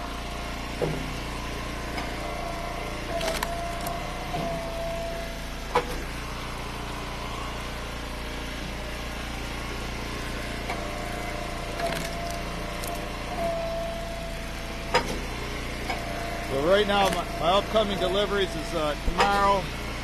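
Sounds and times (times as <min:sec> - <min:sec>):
wood splitter engine running: 0:00.0 - 0:20.0
high steady whine: 0:02.2 - 0:20.0.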